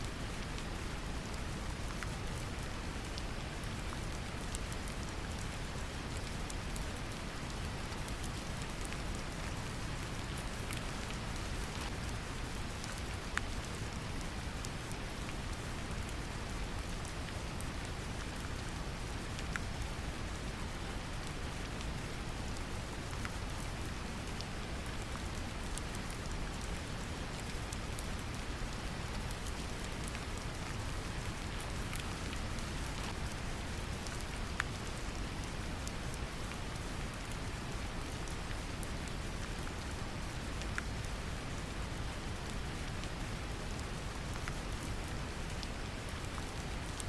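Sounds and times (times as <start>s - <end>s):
gentle rain falling: 0.0s - 47.0s.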